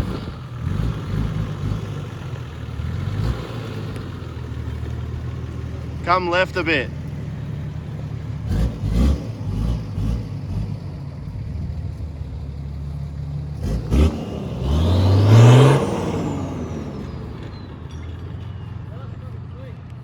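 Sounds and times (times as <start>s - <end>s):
engine running and revving: 0.0s - 20.0s.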